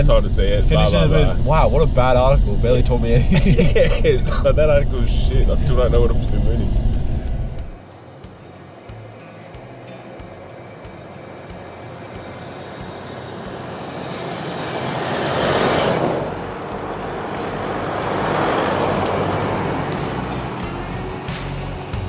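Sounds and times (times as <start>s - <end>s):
vehicles driving past: 0.0s - 22.0s.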